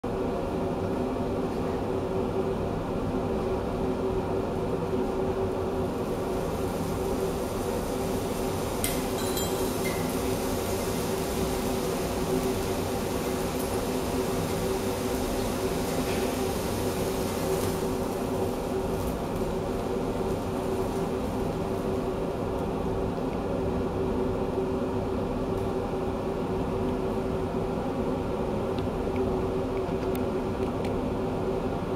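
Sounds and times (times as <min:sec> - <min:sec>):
fan-like hum: 0:00.0 - 0:31.9
thermite burning with hiss: 0:04.6 - 0:31.8.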